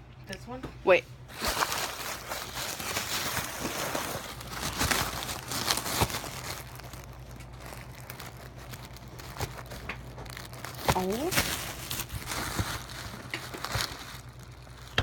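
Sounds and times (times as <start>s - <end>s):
paper packaging crumpling: 1.3s - 15.0s.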